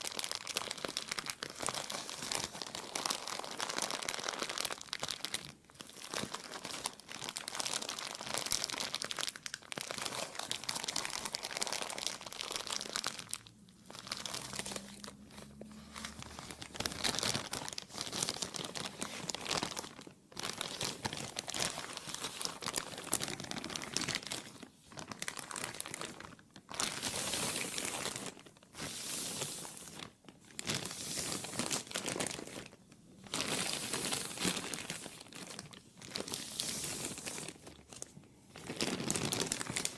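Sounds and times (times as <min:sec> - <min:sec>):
plastic crinkling: 0:00.0 - 0:39.9.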